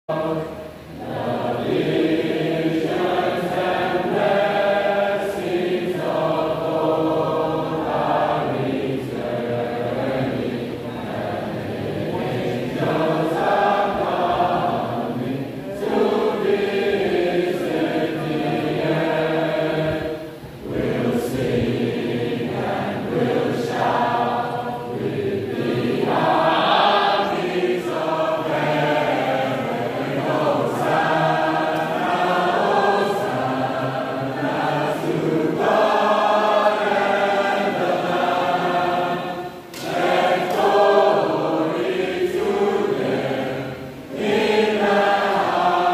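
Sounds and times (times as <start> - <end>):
mixed choir singing: 0.0 - 45.9.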